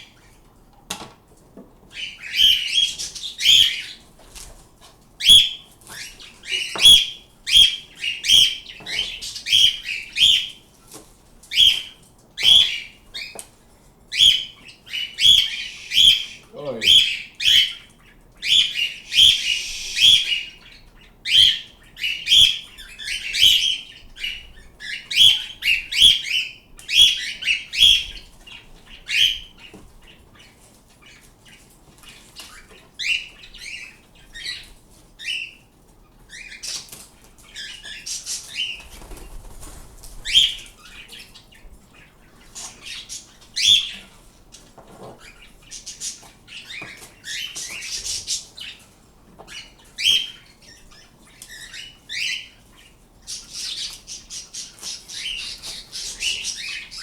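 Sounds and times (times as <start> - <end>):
pet birds chirping: 0.0 - 57.0.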